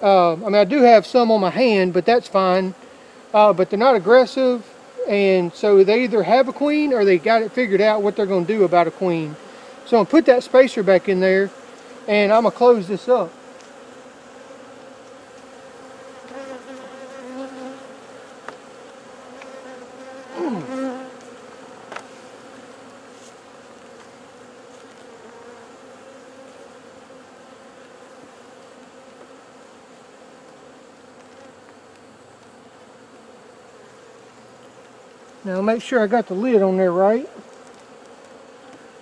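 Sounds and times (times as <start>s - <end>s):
bee passing close: 0.0s - 39.0s
bees buzzing: 0.0s - 39.0s.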